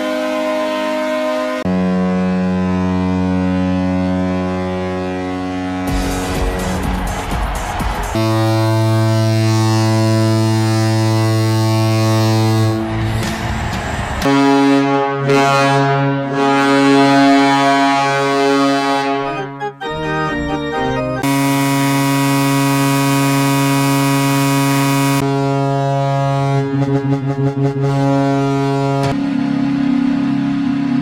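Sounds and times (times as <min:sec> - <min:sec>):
deep air horn: 0:00.0 - 0:20.6, 0:21.2 - 0:29.7
quickly changing horn notes: 0:02.5 - 0:13.4, 0:14.2 - 0:29.2.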